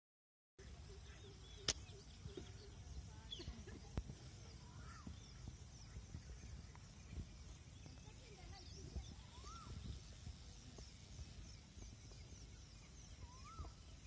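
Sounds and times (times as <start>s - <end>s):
small birds chirping: 0.6s - 14.0s.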